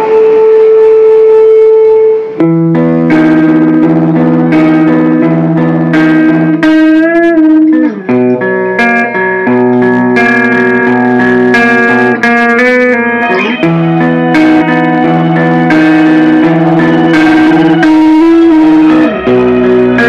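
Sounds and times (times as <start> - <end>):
electric guitars ringing: 0.0 - 20.0.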